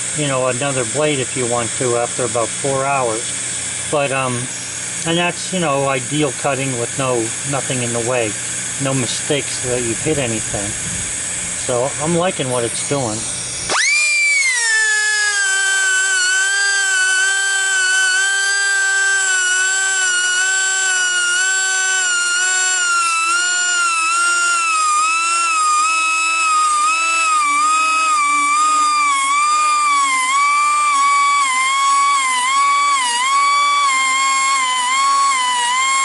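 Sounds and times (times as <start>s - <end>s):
rotary tool grinding saw blade: 0.0s - 10.9s, 11.6s - 36.0s.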